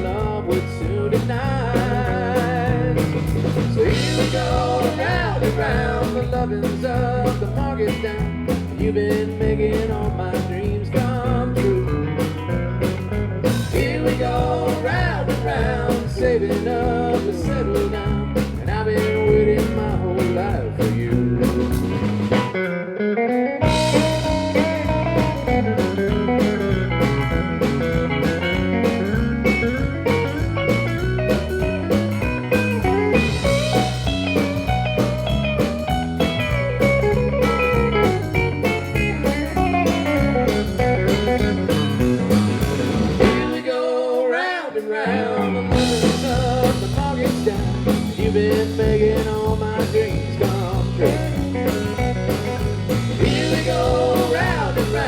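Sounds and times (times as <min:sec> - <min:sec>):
steady drum beat: 0:00.0 - 0:22.6, 0:23.6 - 0:43.7, 0:45.7 - 0:55.0
lead guitar: 0:00.0 - 0:43.7, 0:45.1 - 0:55.0
bass guitar: 0:00.0 - 0:44.4, 0:45.0 - 0:55.0.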